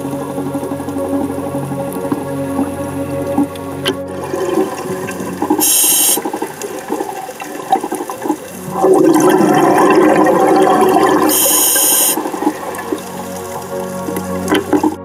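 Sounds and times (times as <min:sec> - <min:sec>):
underwater bubbling and gurgling: 0:00.0 - 0:15.0.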